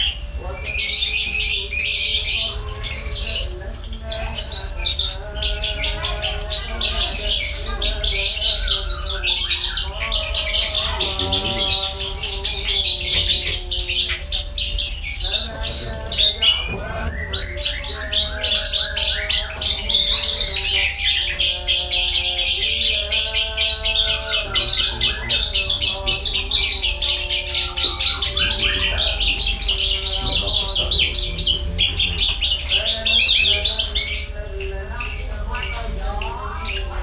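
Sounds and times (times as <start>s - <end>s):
bird twittering and chattering: 0.0s - 37.0s.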